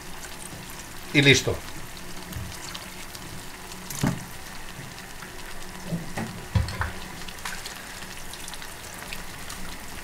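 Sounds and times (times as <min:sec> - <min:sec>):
stew sizzling and crackling: 0:00.0 - 0:10.0.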